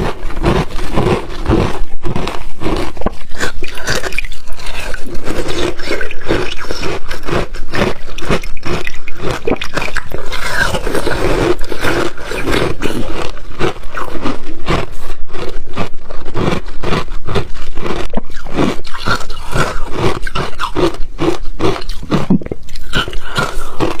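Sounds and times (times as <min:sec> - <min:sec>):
person crunching ice: 0:00.0 - 0:24.0.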